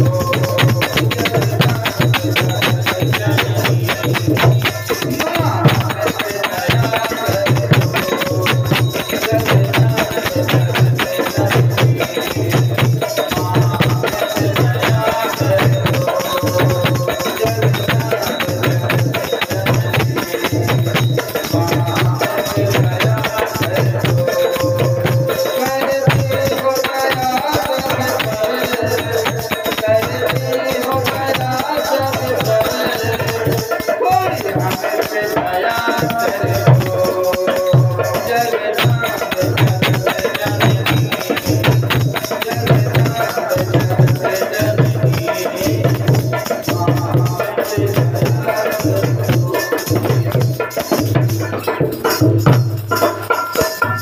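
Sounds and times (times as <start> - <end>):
man singing a hymn: 0.0 - 51.8
jingling hand percussion: 0.0 - 54.0.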